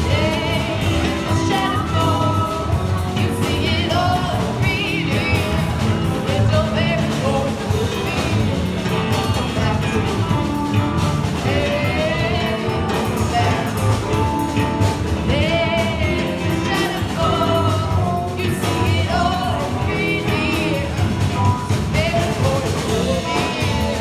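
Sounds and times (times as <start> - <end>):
live rock band playing: 0.0 - 24.0
person singing with vibrato: 0.0 - 24.0.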